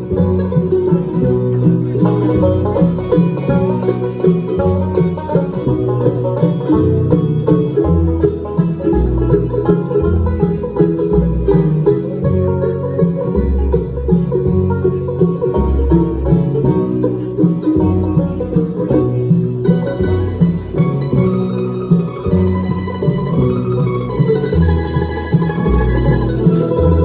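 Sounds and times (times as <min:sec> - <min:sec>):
banjo: 0:00.0 - 0:27.0
guitar: 0:00.0 - 0:27.0
walking bass: 0:00.0 - 0:27.0.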